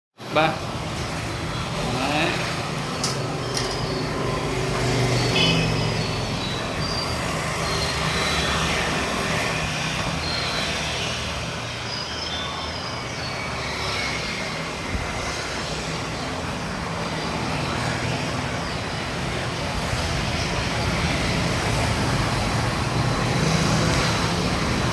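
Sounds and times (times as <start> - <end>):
street traffic noise: 0.2 - 24.9.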